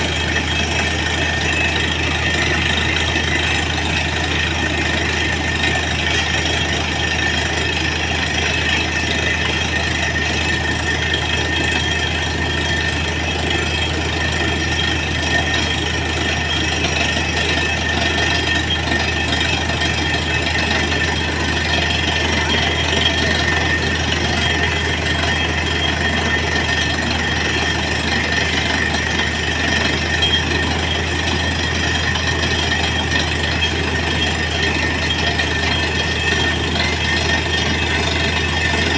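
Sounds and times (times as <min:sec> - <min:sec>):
high-pitched whine: 0:00.0 - 0:38.9.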